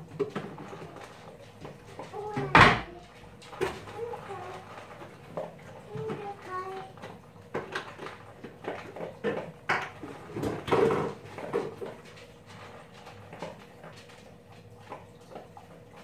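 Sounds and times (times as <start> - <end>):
kitchen items knocking and clattering: 0.0 - 14.2.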